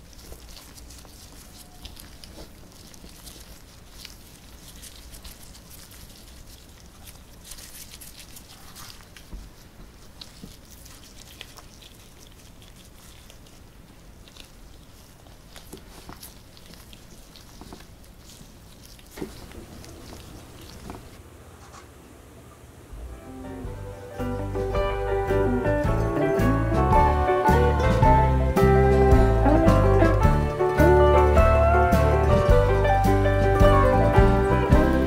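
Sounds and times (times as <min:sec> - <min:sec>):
crumbly rustling of powder coating: 0:00.0 - 0:22.0, 0:23.6 - 0:35.0.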